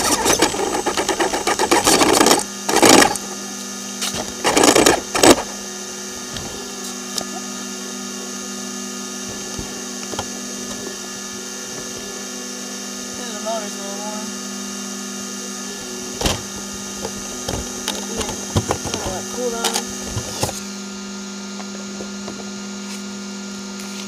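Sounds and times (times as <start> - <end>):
steady hum: 0.0 - 22.7
electric motor whirring in bursts: 0.0 - 24.0.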